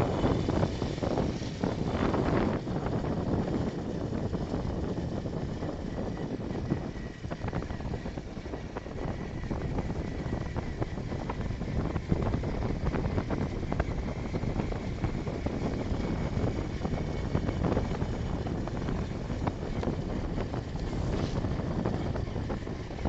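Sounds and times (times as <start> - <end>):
moving vehicle rumble: 0.0 - 23.0
wind buffeting microphone: 0.0 - 23.0.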